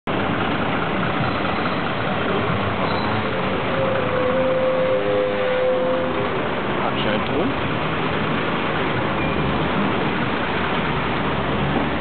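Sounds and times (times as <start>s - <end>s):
bus engines running: 0.0s - 12.0s
city street traffic: 0.0s - 12.0s
steady whine: 0.2s - 10.4s.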